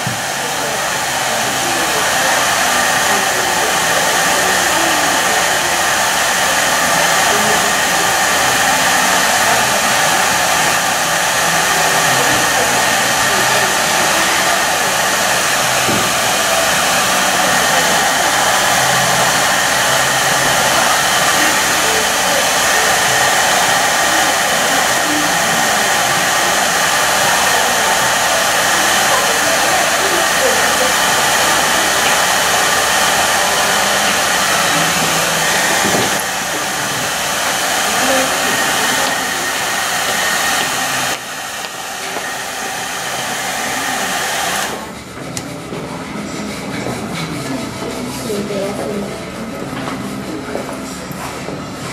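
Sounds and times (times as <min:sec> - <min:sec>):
hair dryer blowing: 0:00.0 - 0:51.9.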